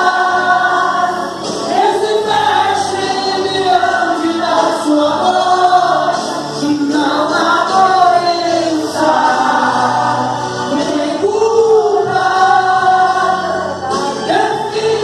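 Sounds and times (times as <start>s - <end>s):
voices singing a hymn together: 0.0s - 15.0s.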